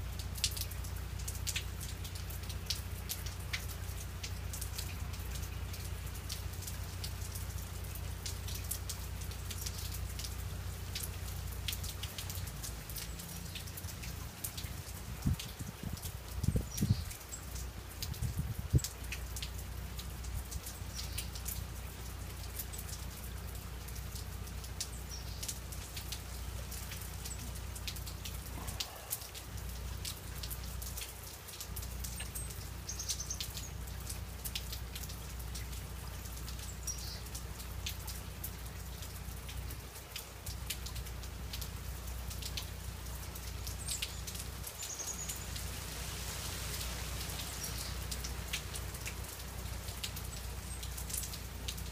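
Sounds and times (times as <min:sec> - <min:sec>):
freezing rain pattering: 0:00.0 - 0:51.9.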